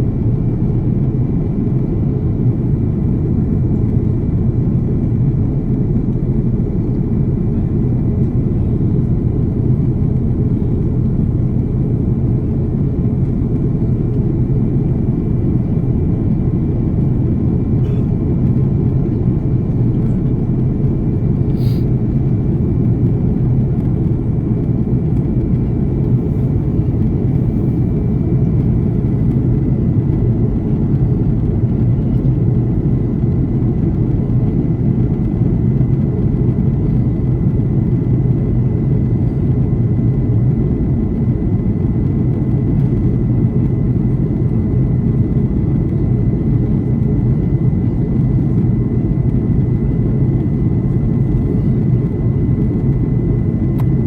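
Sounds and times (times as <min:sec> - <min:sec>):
airliner engines and rushing air: 0:00.0 - 0:54.0.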